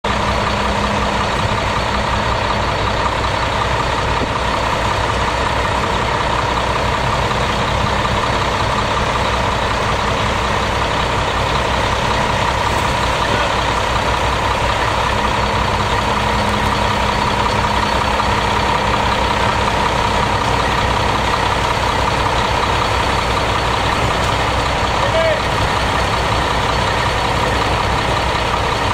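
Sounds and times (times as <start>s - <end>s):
concrete pump truck running: 0.0s - 28.9s.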